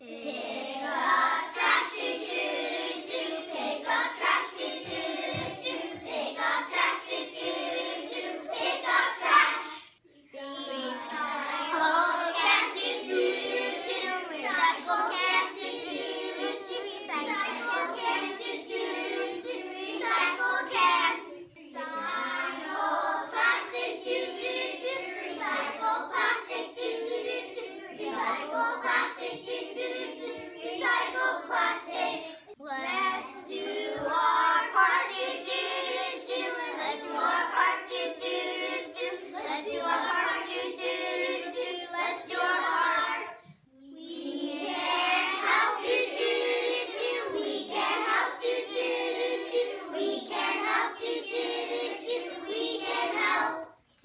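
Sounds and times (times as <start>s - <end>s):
young children singing: 0.0s - 54.0s.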